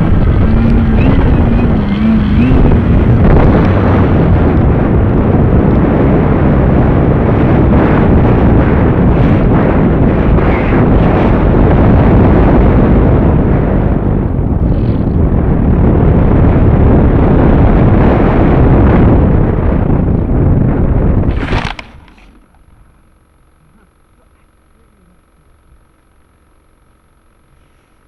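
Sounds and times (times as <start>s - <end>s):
wind buffeting on microphone: 0.0s - 23.2s
faint hum: 0.0s - 28.0s.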